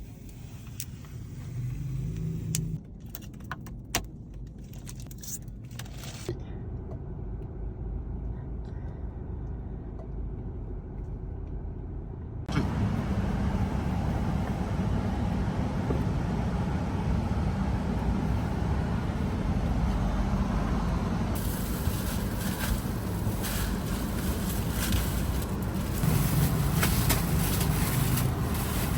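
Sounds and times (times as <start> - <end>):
motor vehicle rumble: 0.0 - 28.9.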